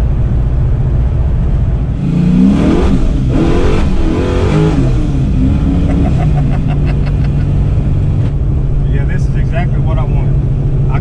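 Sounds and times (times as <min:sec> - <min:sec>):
car engine drone from inside: 0:00.0 - 0:11.0.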